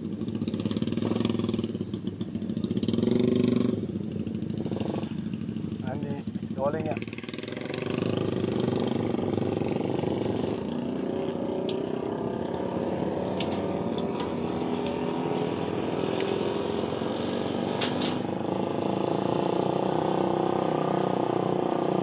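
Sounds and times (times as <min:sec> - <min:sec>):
motorcycle engine running at low revs: 0:00.0 - 0:22.0.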